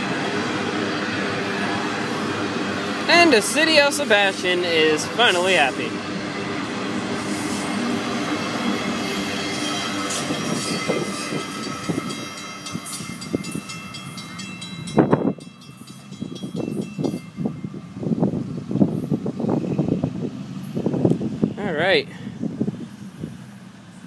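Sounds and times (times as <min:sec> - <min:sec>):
high-pitched ringing wheel tones: 0:00.0 - 0:20.9
freight train wheels rumbling on rails: 0:00.0 - 0:24.0.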